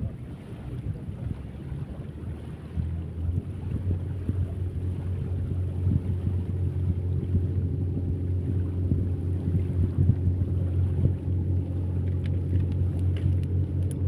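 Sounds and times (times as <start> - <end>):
low engine hum: 0.0 - 14.0
wind buffeting microphone: 0.0 - 14.0.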